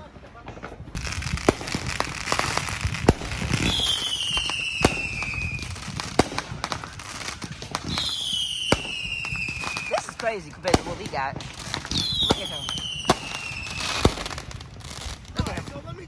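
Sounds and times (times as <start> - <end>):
fireworks crackling: 0.0 - 16.0
fireworks popping and banging: 0.0 - 16.0
whistling firework: 0.0 - 16.0.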